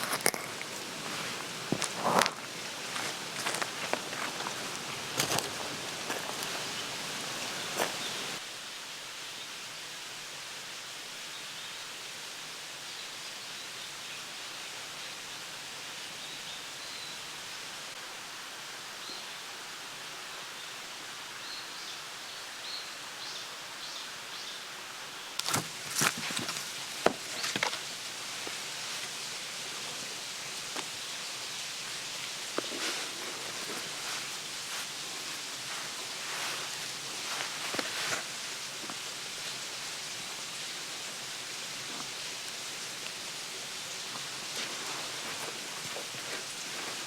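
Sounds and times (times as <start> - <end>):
steady outdoor hiss: 0.0 - 47.0.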